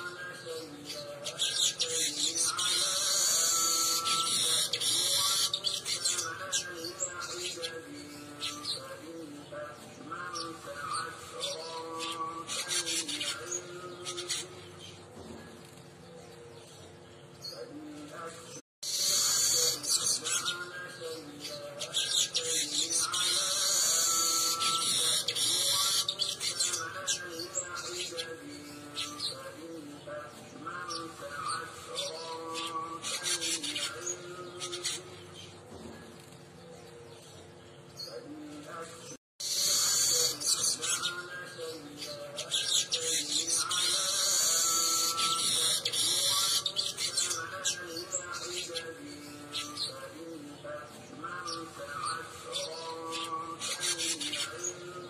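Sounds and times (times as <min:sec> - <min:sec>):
weaver bird buzzy chatter: 0:00.0 - 0:16.0, 0:18.8 - 0:55.0.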